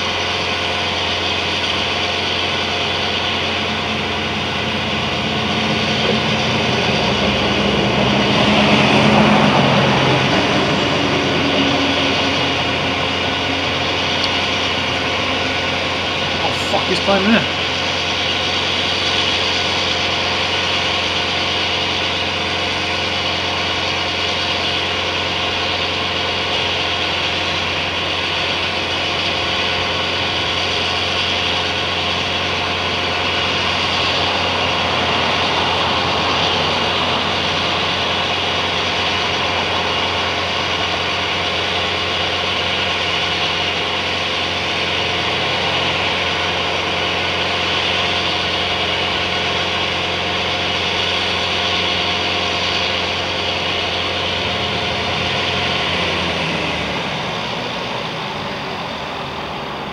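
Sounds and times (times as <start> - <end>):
wood chipper engine running: 0.0 - 59.9.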